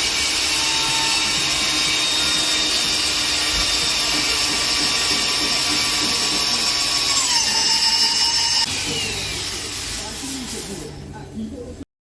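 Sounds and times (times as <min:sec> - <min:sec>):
power tool whining: 0:00.0 - 0:10.0.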